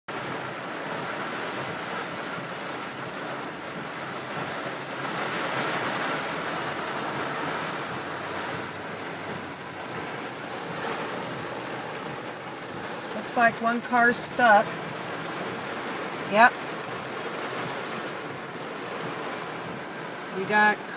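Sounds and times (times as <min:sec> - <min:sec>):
heavy rain pouring: 0:00.1 - 0:20.9.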